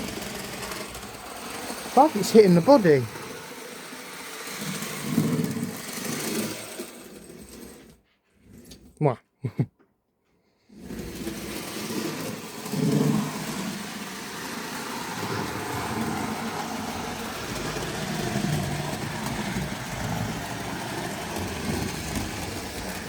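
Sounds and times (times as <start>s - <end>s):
model train motor whir: 0.0s - 8.9s, 10.7s - 23.0s.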